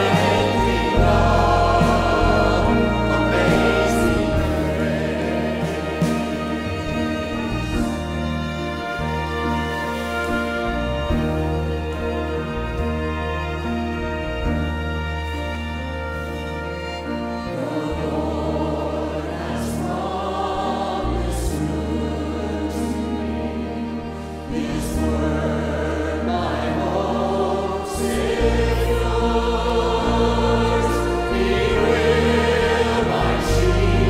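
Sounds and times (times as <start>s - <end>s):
congregation singing a hymn: 0.0s - 34.0s
sustained deep bass notes: 0.0s - 34.0s.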